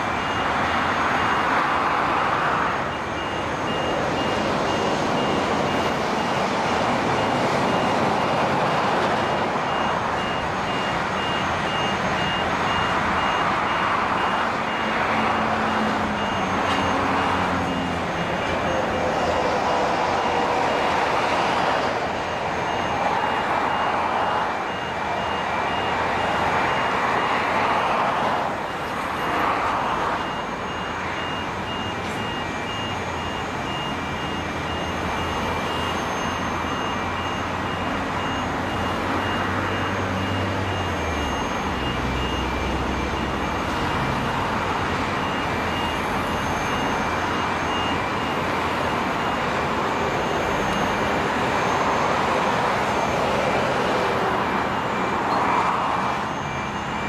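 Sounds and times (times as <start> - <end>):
warning beeper: 0.0 - 57.0.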